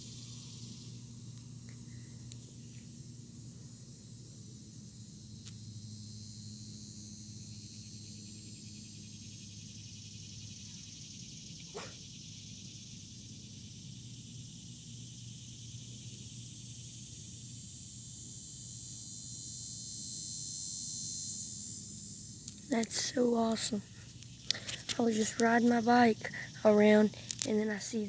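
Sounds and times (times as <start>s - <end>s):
insect chorus buzzing: 0.0s - 28.0s.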